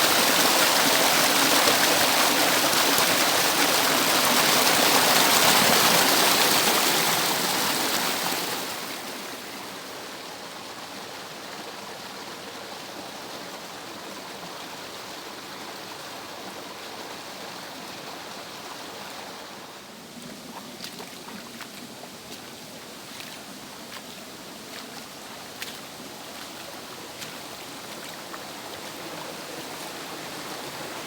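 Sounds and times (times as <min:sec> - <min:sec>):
water rushing over cascade: 0:00.0 - 0:31.0.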